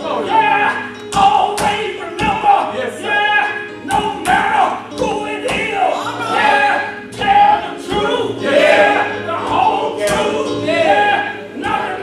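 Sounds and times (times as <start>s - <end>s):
choir singing gospel: 0.0s - 12.0s.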